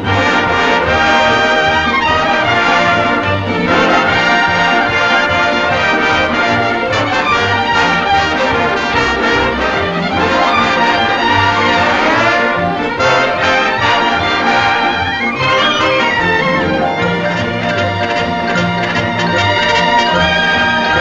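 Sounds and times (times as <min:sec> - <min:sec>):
orchestral brass music: 0:00.0 - 0:21.0.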